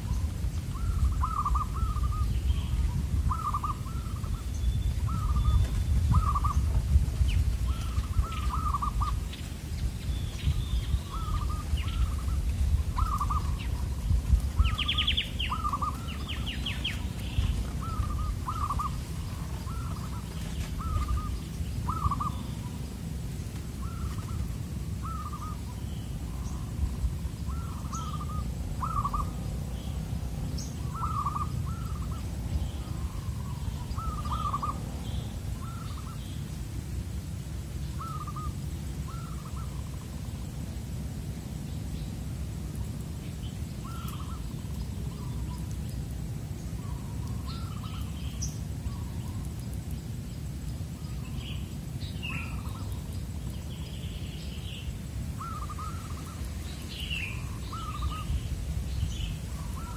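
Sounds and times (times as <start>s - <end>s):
small bird chirping: 0.0s - 23.0s, 23.7s - 36.6s, 37.8s - 40.7s, 41.4s - 59.9s
doves cooing: 0.0s - 36.6s, 37.2s - 40.9s, 42.4s - 50.2s, 50.9s - 59.9s.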